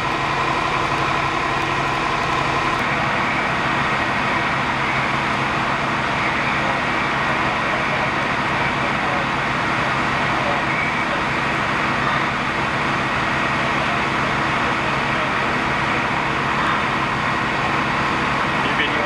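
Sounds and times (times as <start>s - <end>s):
large engine humming: 0.0s - 19.0s.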